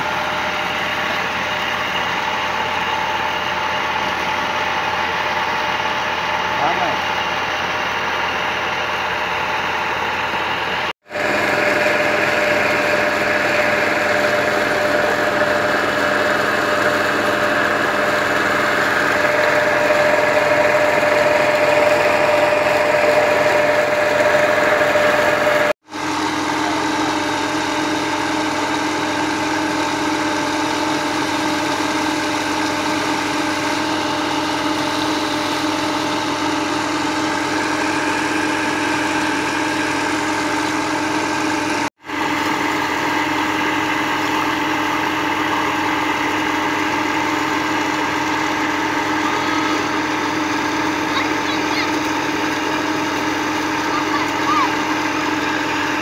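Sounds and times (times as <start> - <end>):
tractor diesel engine running: 0.0 - 56.0
water gushing into a pool: 11.1 - 56.0.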